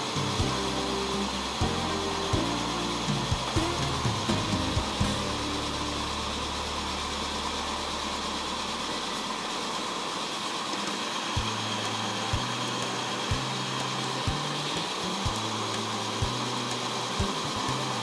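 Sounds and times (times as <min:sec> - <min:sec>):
running gear whirring: 0:00.0 - 0:18.0
steam hissing: 0:00.0 - 0:18.0.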